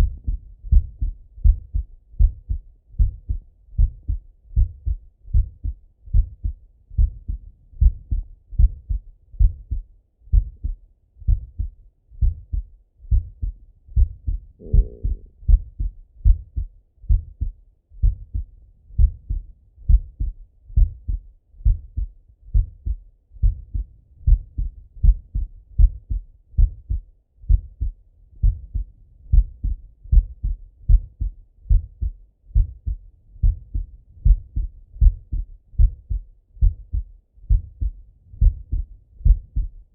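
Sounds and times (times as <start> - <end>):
heartbeat through stethoscope: 0.0 - 39.9.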